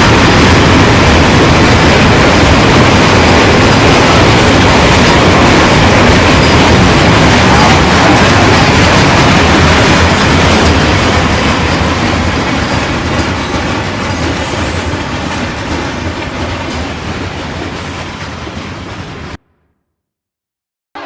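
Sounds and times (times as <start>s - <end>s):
train cars rolling on rails: 0.0s - 19.4s.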